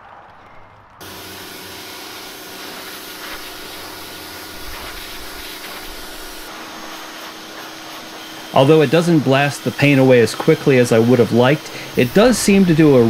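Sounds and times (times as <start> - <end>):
pressure washer motor hum: 1.0 - 13.0
pressure washer water jet hissing: 1.0 - 13.0.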